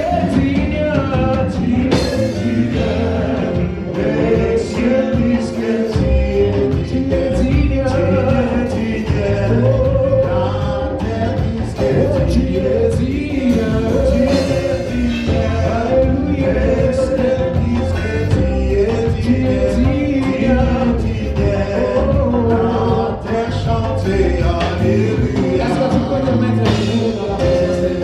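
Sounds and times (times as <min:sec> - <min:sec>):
drums: 0:00.0 - 0:28.0
gospel band playing: 0:00.0 - 0:28.0
voices singing: 0:00.0 - 0:28.0.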